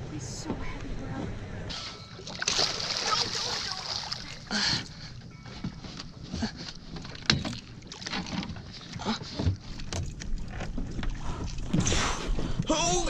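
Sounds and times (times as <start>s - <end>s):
water splashing and sloshing: 0.4s - 13.0s.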